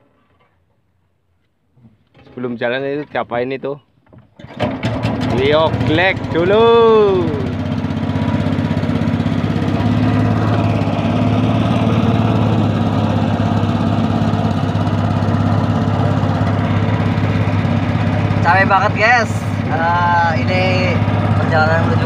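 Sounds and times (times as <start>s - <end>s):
small boat engine running: 4.1s - 22.0s.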